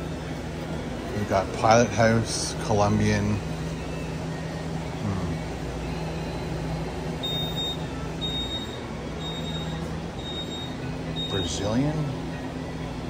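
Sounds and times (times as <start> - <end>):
appliance and ventilation hum: 0.0 - 13.0.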